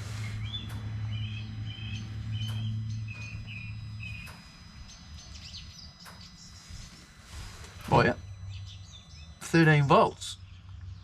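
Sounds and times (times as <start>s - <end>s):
low steady hum: 0.0s - 11.0s
small bird chirping: 0.0s - 11.0s.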